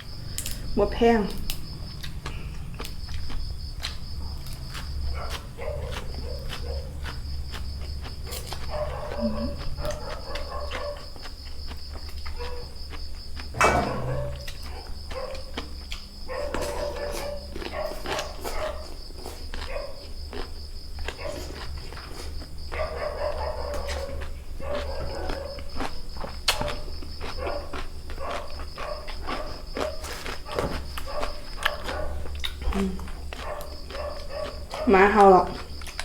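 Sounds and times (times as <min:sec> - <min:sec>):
chewing crunchy food: 0:00.0 - 0:36.0.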